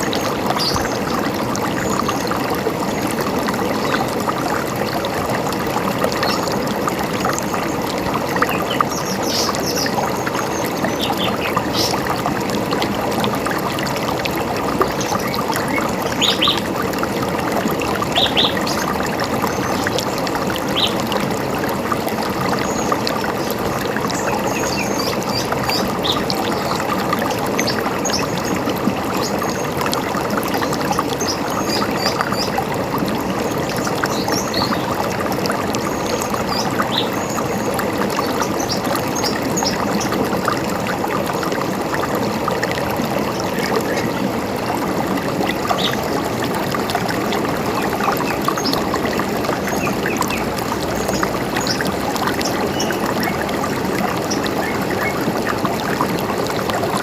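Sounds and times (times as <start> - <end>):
river water running: 0.0 - 57.0.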